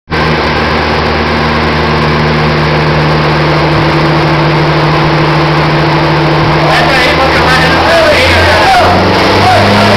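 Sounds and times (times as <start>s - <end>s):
car engine running loud: 0.1s - 9.9s.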